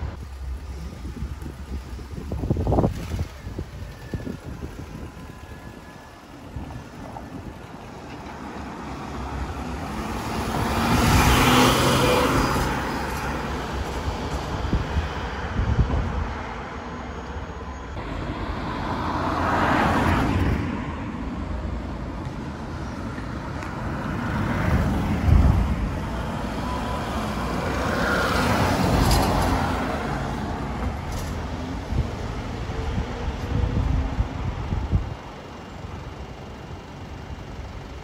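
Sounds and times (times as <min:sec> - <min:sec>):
cars passing by: 0:00.0 - 0:38.0.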